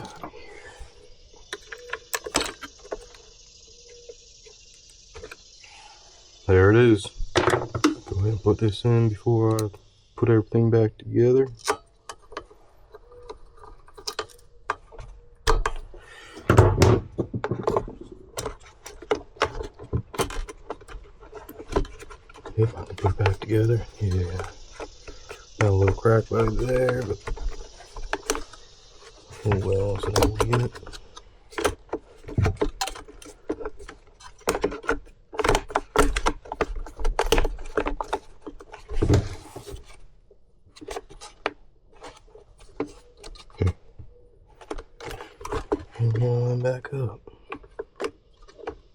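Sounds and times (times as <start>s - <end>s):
plastic parts clicking and scraping: 0.0s - 5.6s, 6.2s - 48.9s.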